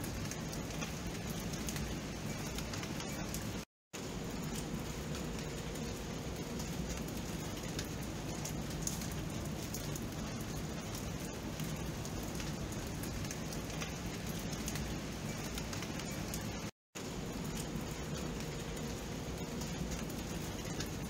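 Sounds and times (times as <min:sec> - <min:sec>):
raindrop ticks: 0:00.0 - 0:21.0
steady rain falling: 0:00.0 - 0:21.0.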